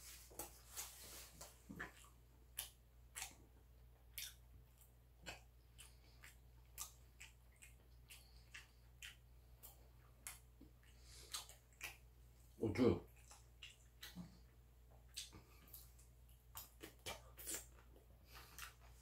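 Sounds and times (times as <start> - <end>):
soft chewing: 0.0 - 19.0.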